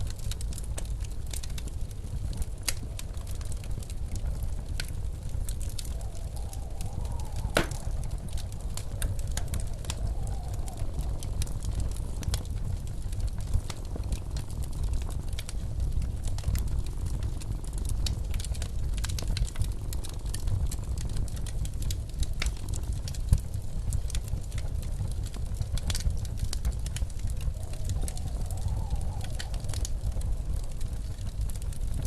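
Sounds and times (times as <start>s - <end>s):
blizzard wind: 0.0s - 32.0s
log fire crackling: 0.0s - 32.0s.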